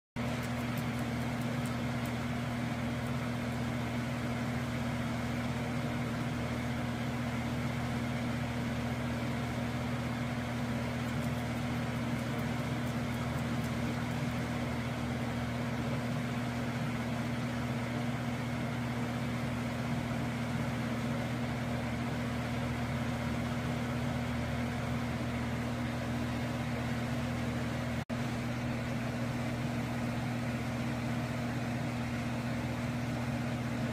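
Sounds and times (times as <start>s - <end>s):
low machine hum: 0.2s - 33.9s.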